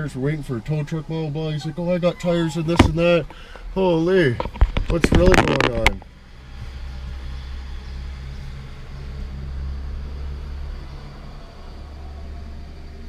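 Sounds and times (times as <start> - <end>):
vehicle engine drone and road noise: 0.0 - 13.0.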